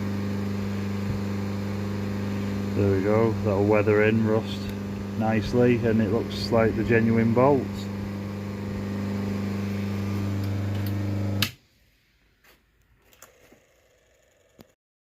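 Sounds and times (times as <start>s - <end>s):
electric motor humming: 0.0s - 11.6s, 13.0s - 14.8s.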